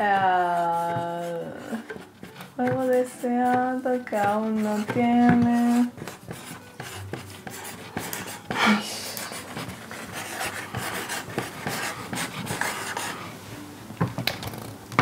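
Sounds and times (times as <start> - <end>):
pens scratching on boards: 0.0 - 13.4.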